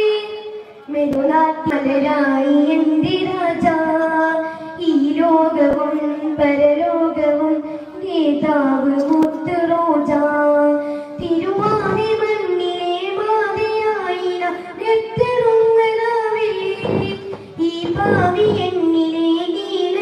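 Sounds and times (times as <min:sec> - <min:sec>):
boy singing into a microphone: 0:00.0 - 0:20.0.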